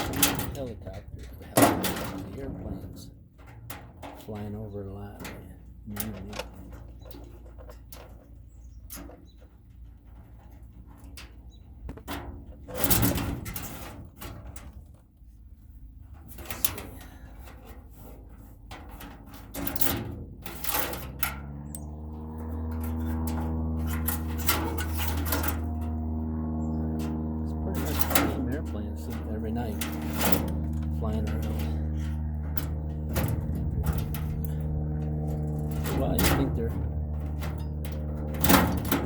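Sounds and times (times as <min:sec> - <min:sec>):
sheet metal clanking: 0:00.0 - 0:14.9, 0:16.1 - 0:39.0
low droning hum: 0:00.0 - 0:39.0.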